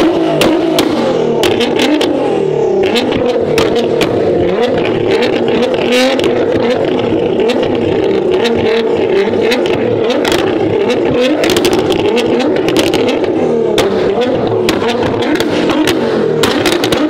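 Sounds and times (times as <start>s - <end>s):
car engine revving: 0.0s - 17.0s
exhaust clicks and crackles: 0.0s - 17.0s.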